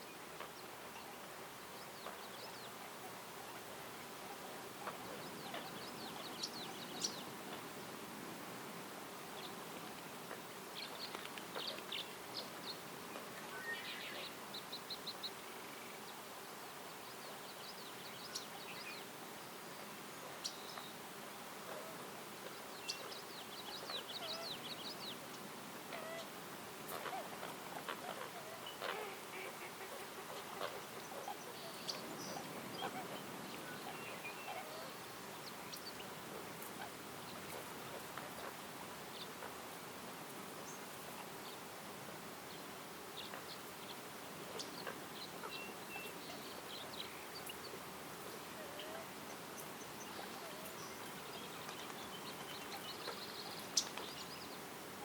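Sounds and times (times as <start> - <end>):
outdoor hiss: 0.0 - 55.0
songbirds chirping: 0.0 - 55.0.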